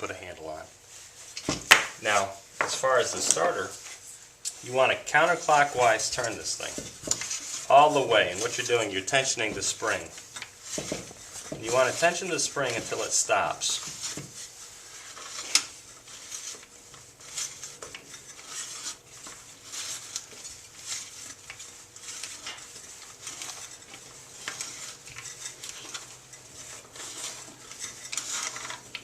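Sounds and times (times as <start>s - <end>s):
recoil starter clicking and scraping: 4.4s - 29.0s.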